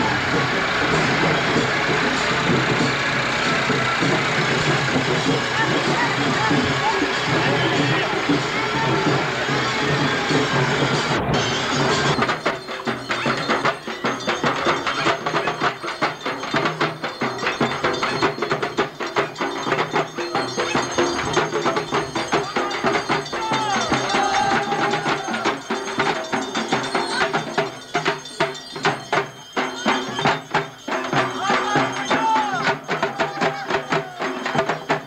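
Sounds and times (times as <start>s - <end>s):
fast dense drumming: 0.0s - 35.0s
wavering melody line: 0.0s - 35.0s.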